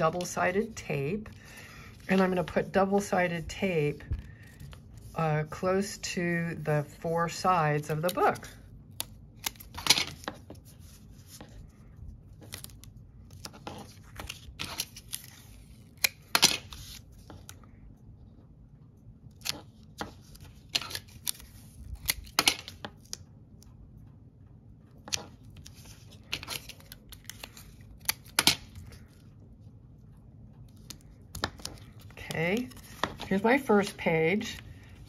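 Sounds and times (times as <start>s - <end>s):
paper handling: 0.0s - 5.9s, 7.3s - 17.7s, 19.2s - 23.2s, 24.9s - 29.4s, 30.6s - 35.0s.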